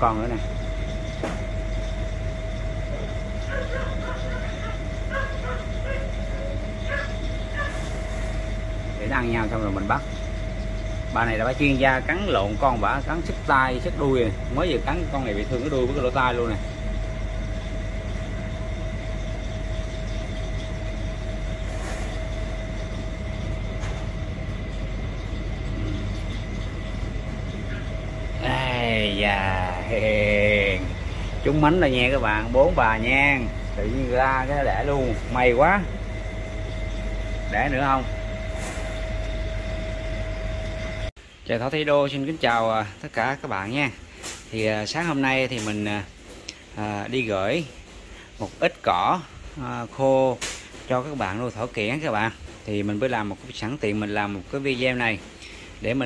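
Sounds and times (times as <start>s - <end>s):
mechanical hum: 0.0s - 56.0s
thin whine: 0.0s - 56.0s.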